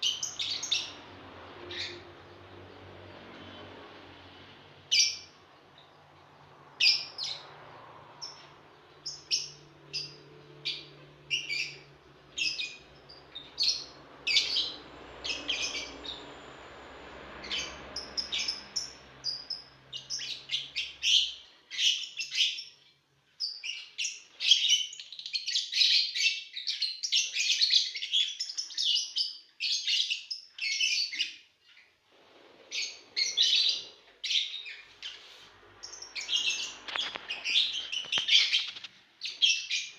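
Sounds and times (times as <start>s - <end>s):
lovebirds chirping: 0.0s - 3.7s, 4.3s - 32.0s, 32.7s - 39.9s.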